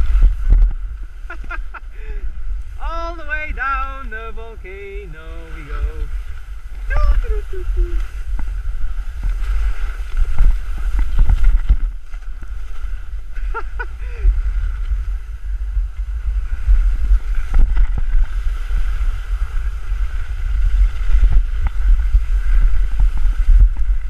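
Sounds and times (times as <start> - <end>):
snow scraping under sliding body: 0.0 - 3.5, 4.9 - 23.7
wind buffeting microphone: 0.0 - 24.0.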